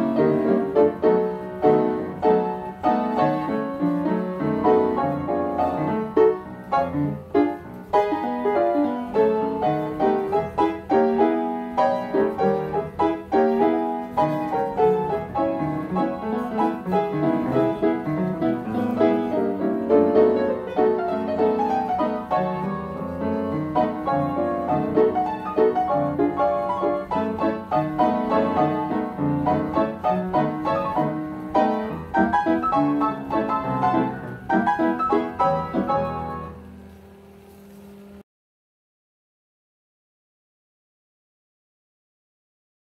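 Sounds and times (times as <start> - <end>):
player piano playing: 0.0 - 38.2.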